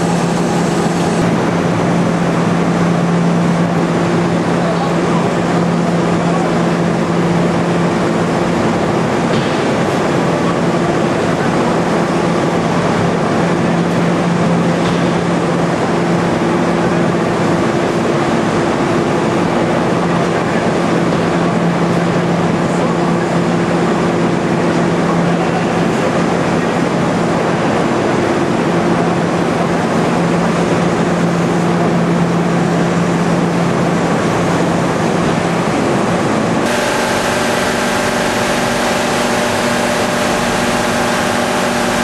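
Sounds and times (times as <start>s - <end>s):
constant rushing noise: 0.0s - 42.0s
machinery humming: 0.0s - 42.0s.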